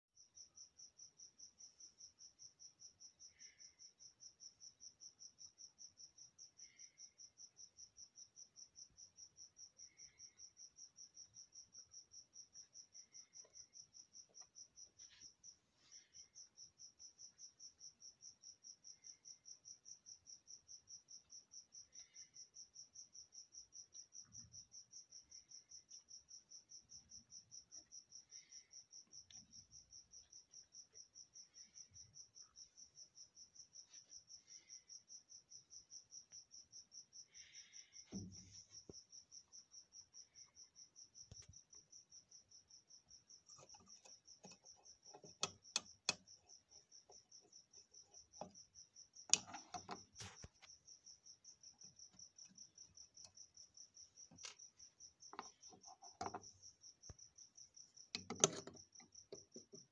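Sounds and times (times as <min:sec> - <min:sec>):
cricket chirping: 0:00.1 - 0:59.9.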